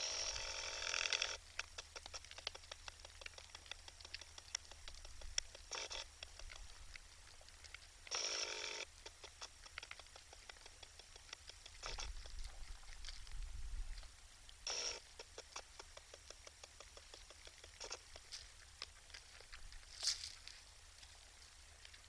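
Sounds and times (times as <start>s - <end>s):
deer chewing and crunching feed: 0.0s - 22.0s.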